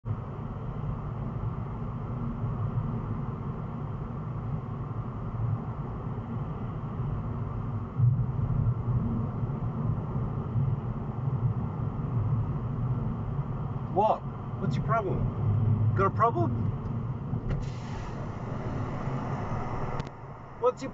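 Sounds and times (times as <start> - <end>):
car road and engine rumble: 0.0 - 20.9.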